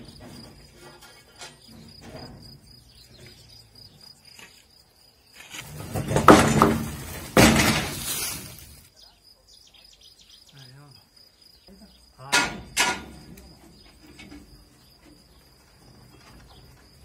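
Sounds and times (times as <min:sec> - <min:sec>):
insects trilling: 0:00.0 - 0:06.2, 0:06.8 - 0:17.0.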